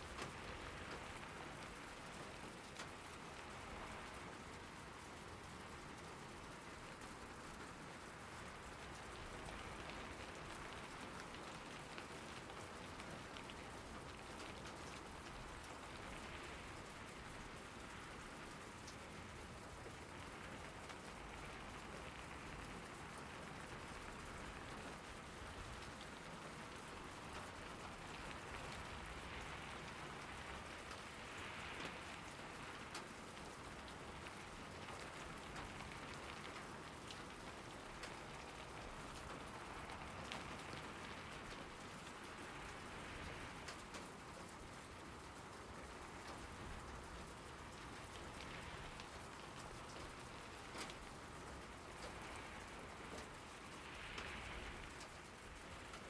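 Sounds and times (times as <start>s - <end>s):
raindrops ticking on surfaces: 0.0s - 56.0s
steady rainfall hiss: 0.0s - 56.0s.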